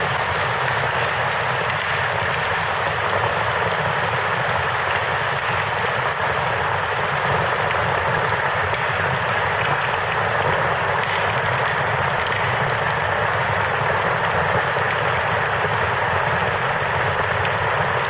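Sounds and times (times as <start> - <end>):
faint campfire crackling: 0.0 - 18.0.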